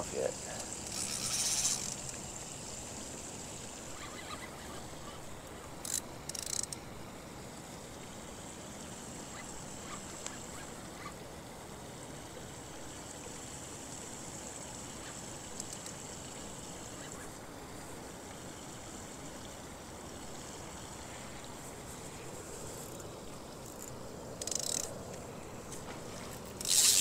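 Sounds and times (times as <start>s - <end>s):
faint water trickle: 0.0s - 27.0s.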